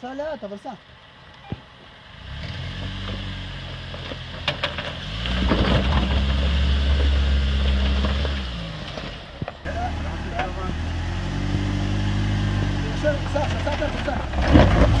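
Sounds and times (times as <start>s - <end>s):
off-road vehicle engine crawling: 0.0s - 15.0s.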